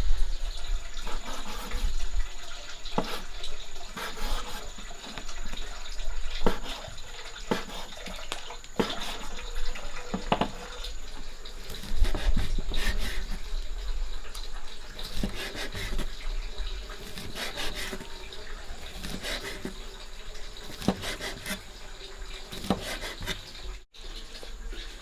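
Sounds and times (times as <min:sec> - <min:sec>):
water running and splashing: 0:00.0 - 0:25.0.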